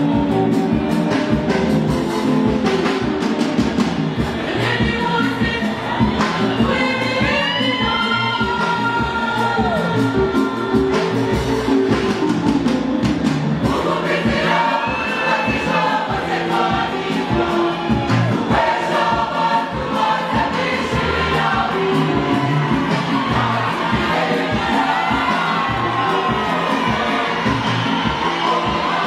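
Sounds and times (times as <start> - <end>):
steady beat: 0.0 - 7.4, 8.2 - 29.0
choir singing gospel song: 0.0 - 12.8, 13.5 - 29.0.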